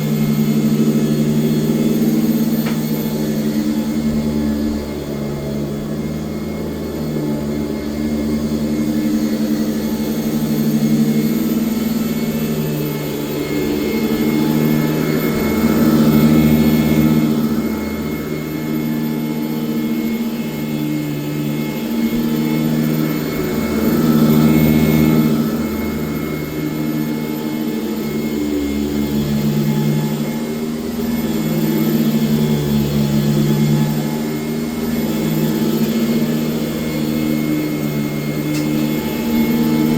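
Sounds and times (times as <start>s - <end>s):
vacuum cleaner motor hum: 0.0s - 39.9s.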